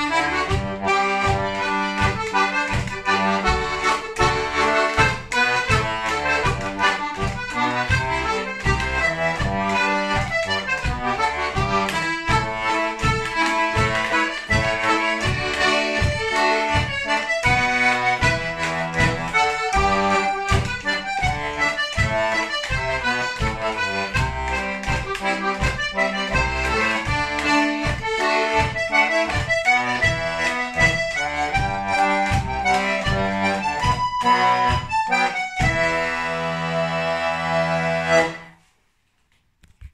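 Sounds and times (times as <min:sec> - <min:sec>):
button accordion dance tune: 0:00.0 - 0:38.7.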